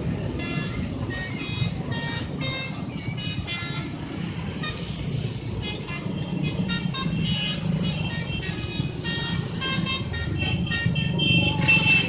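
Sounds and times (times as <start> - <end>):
bus multi-tone horn: 0.0 - 12.0
road traffic rumble: 0.0 - 12.0.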